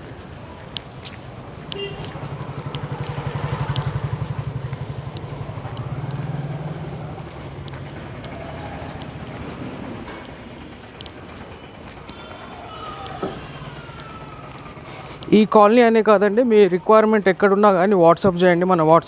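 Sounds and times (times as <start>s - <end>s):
vehicle engine running: 0.0s - 18.4s.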